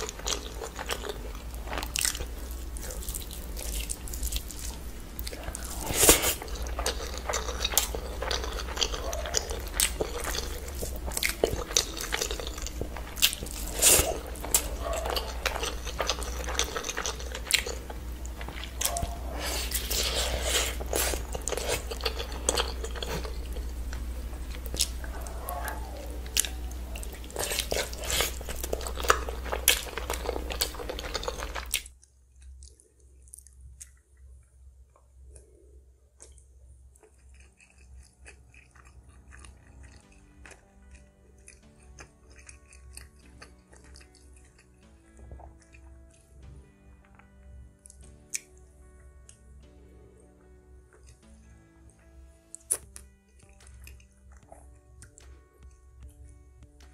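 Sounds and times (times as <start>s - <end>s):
wet chewing and mouth clicks: 0.0s - 35.5s, 36.1s - 46.6s, 47.8s - 48.6s, 52.5s - 56.9s.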